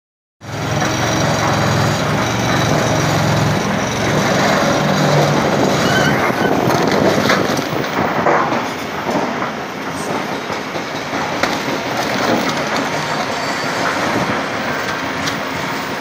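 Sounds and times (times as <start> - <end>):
excavator engine humming: 0.4 - 16.0.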